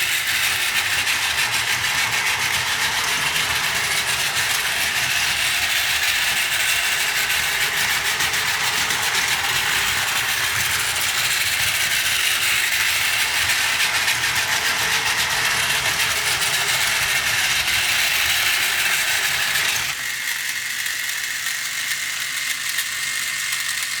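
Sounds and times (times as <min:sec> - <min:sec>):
plastic wheels clattering on track: 0:00.0 - 0:20.0
toy train motor whirring: 0:00.0 - 0:24.0.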